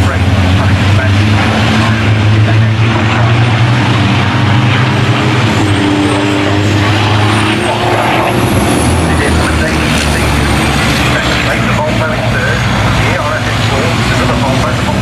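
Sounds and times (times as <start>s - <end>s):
racing truck diesel engines: 0.0s - 15.0s.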